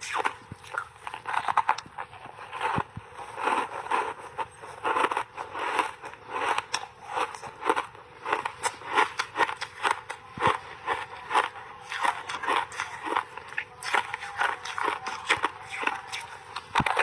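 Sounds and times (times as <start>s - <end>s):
chewing crunchy ice: 0.0s - 17.0s.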